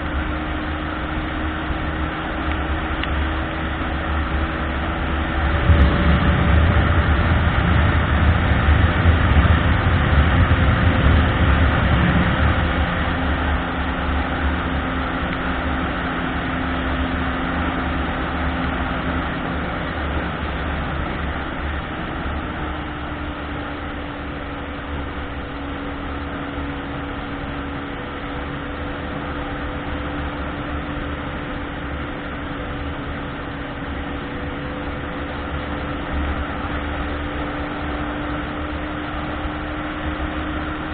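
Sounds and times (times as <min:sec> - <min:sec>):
car engine hum: 0:00.0 - 0:40.9
tyre and road noise: 0:00.0 - 0:40.9.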